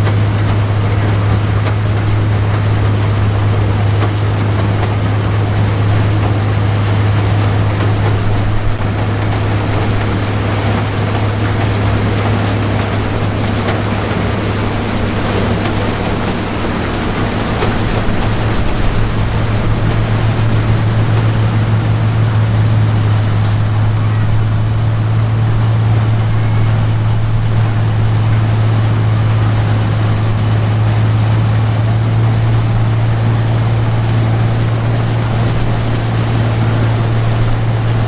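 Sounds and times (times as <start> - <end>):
combine engine drone: 0.0 - 38.0
harvesting machinery noise: 0.0 - 38.0.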